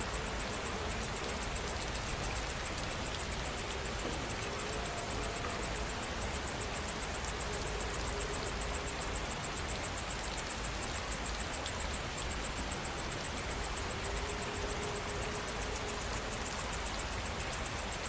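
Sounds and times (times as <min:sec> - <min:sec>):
insect chirping: 0:00.0 - 0:18.0
steady rain: 0:00.0 - 0:18.0.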